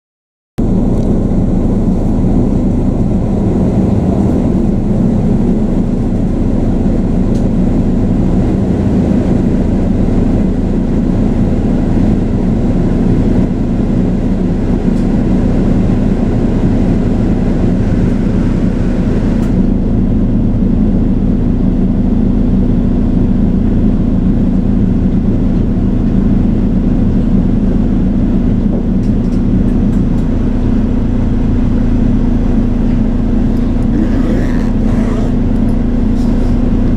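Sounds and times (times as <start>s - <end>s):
bus engine drone: 0.6s - 36.9s.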